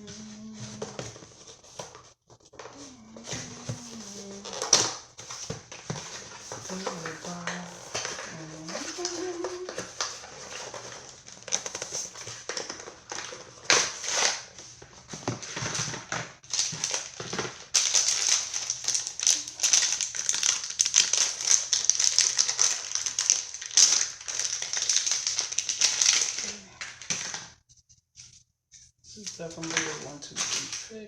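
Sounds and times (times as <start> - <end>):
packaging rustling and crinkling: 0.0 - 31.0.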